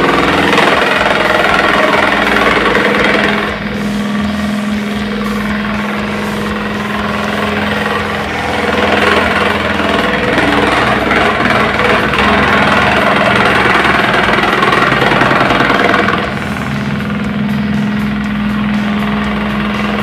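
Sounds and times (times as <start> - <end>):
fan motor hum: 0.0 - 20.0
loud mechanical rattle: 0.0 - 20.0.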